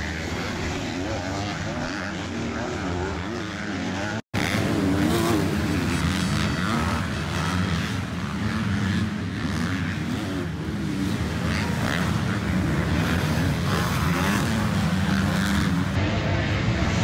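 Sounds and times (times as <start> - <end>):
motocross bike engines droning: 0.0 - 17.0.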